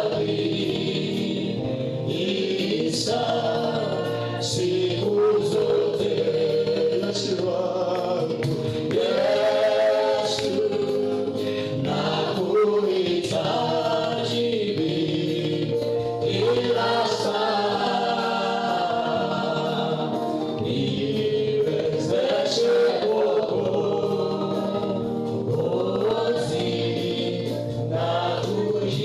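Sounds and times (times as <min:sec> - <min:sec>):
group singing gospel song: 0:00.0 - 0:29.0.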